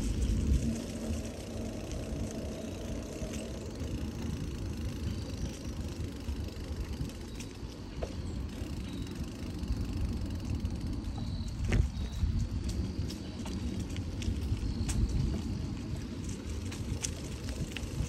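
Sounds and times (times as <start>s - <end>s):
bicycle tyres rumbling on pavement: 0.0s - 18.0s
wind on microphone: 0.0s - 18.0s.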